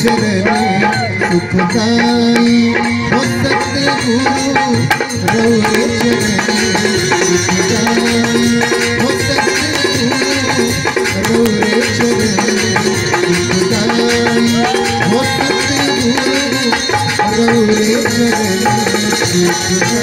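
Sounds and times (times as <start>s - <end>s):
hand drum and rattle percussion: 0.0s - 20.0s
harmonium and keyboard melody: 0.0s - 20.0s.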